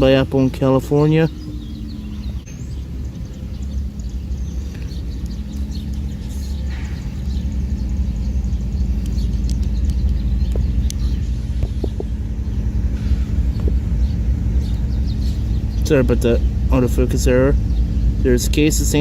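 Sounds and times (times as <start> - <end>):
constant hum: 0.0 - 19.0
low rumble: 0.0 - 19.0.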